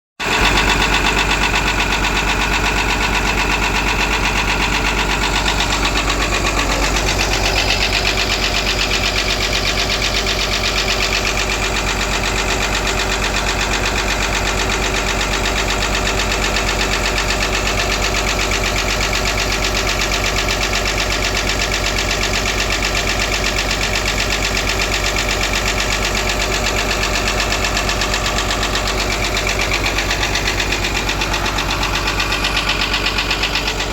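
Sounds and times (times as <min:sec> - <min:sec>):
compressor knocking and tones: 0:00.2 - 0:33.9
excavator diesel engine running: 0:00.2 - 0:33.9.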